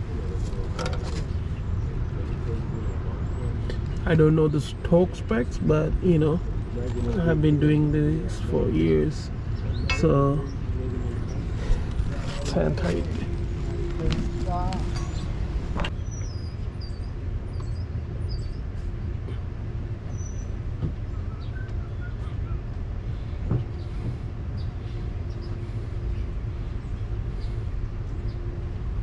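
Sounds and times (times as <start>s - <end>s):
low rumble of vehicle noise: 0.0s - 29.0s.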